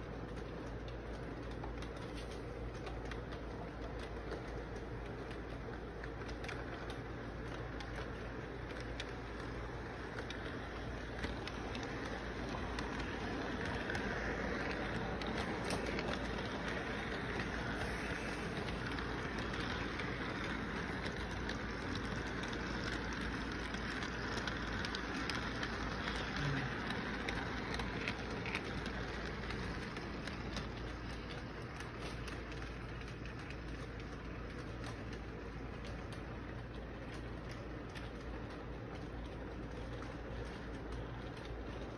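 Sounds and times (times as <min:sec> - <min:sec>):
model train wheels rattling: 0:00.0 - 0:41.9.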